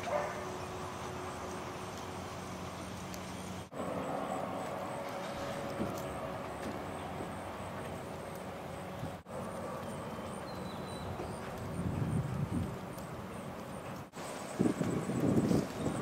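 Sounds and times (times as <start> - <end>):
outdoor background rumble: 0.0 - 16.0.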